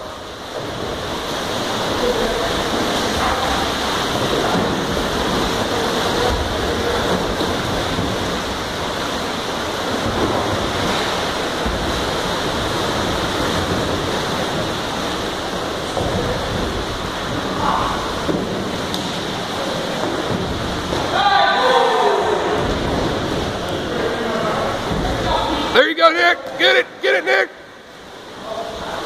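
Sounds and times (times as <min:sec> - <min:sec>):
kayaks splashing water: 0:00.0 - 0:29.0.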